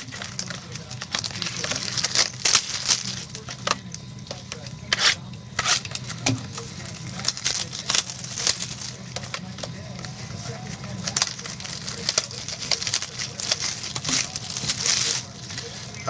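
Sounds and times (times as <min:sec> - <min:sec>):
card packaging crinkling and clicking: 0:00.0 - 0:16.0
steady low hum: 0:00.0 - 0:16.0.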